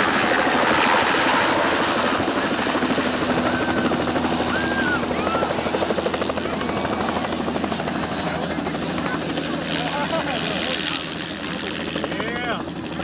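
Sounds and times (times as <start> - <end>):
helicopter engine hum: 0.0 - 13.0
helicopter rotor chopping: 0.0 - 13.0.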